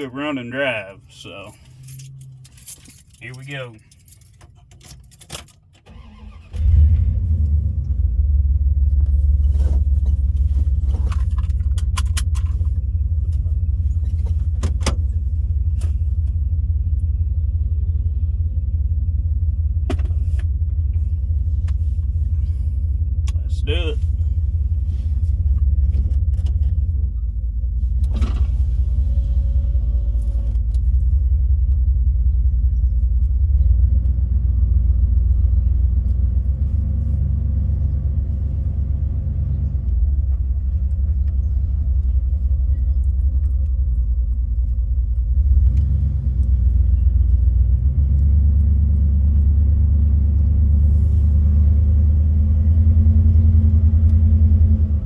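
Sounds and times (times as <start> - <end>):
vehicle engine and drivetrain rumble: 0.0 - 55.0.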